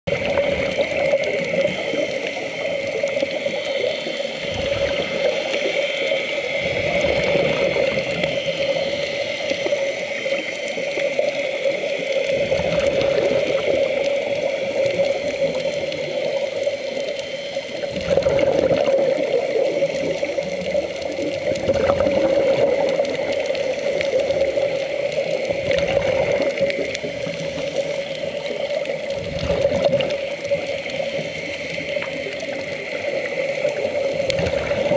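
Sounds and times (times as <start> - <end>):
surges of moving water: 0.1 - 34.9.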